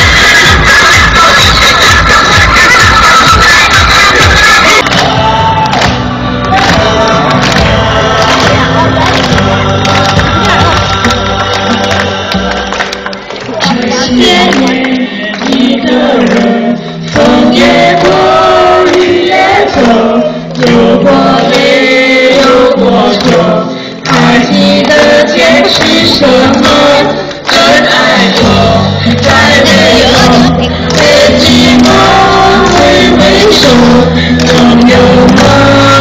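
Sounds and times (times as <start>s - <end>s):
group singing into microphones: 0.0s - 36.0s.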